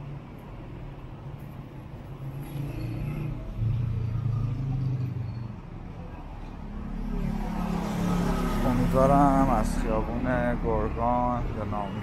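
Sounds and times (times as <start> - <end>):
city street traffic: 0.0 - 12.0
vehicle engine passing close: 2.1 - 12.0.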